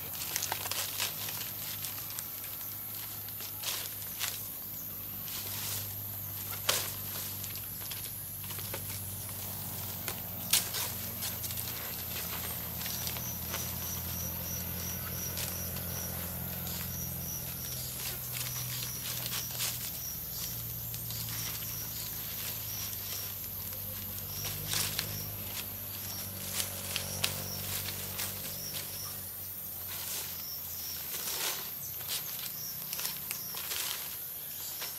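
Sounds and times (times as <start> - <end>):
dry palm fronds rustling: 0.0 - 34.9.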